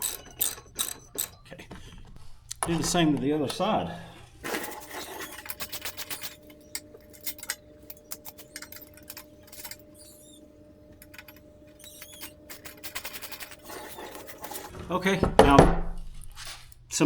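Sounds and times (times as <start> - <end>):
metal parts clinking: 0.0 - 16.9
faint steady hum: 0.0 - 17.0.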